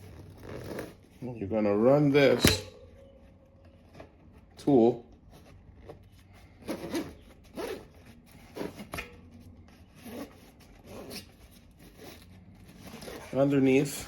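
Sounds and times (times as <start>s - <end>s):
tire lever scraping along rim: 0.0s - 3.1s, 4.6s - 14.0s.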